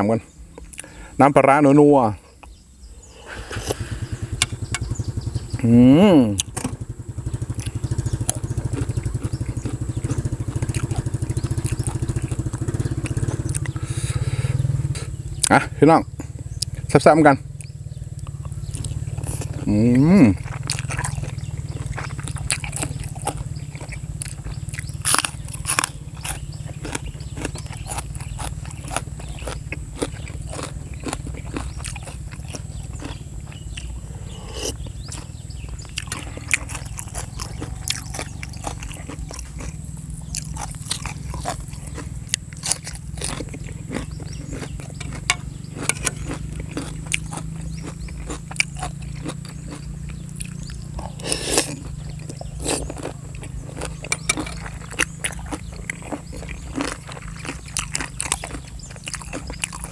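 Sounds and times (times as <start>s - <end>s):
person chewing and crunching: 0.6s - 0.9s, 7.4s - 15.6s, 17.6s - 59.9s
low rumble: 2.8s - 52.6s.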